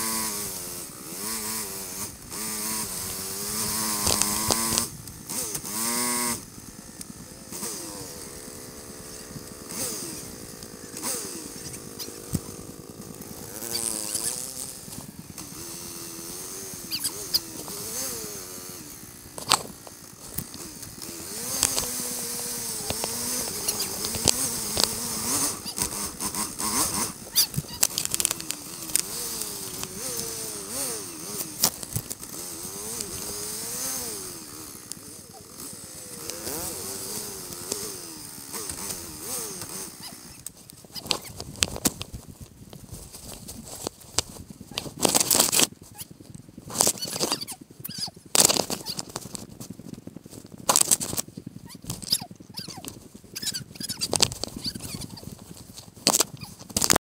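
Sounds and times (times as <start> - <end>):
quad engine revving: 0.0 - 42.3, 43.6 - 57.0.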